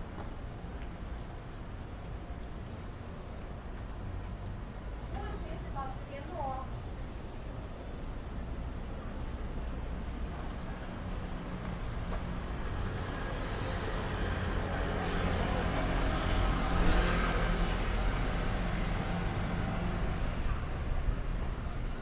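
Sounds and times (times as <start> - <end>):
traffic engine rumble: 0.0 - 22.0.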